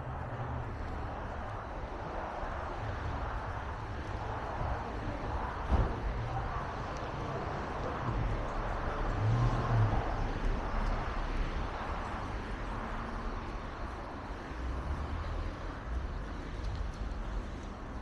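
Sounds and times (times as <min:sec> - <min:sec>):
cars driving past: 0:00.0 - 0:18.0
low traffic rumble: 0:00.0 - 0:18.0.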